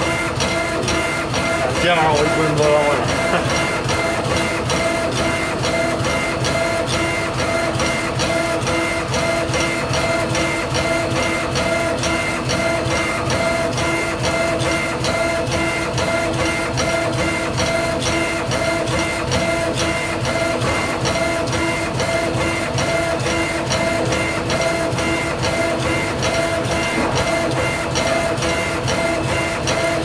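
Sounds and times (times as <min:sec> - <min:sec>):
laser engraver stepper motors whirring: 0:00.0 - 0:30.0
steady machine hum: 0:00.0 - 0:30.0.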